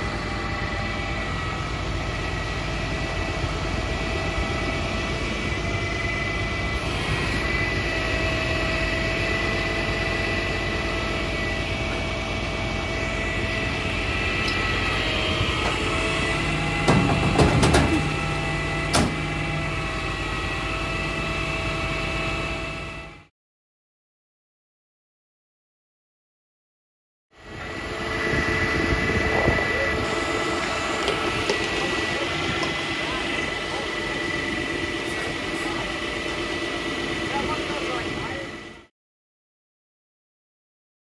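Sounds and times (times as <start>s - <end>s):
hydraulic pump whine: 0.0s - 23.3s, 27.4s - 38.9s
truck engine running: 0.0s - 23.3s, 27.4s - 38.9s.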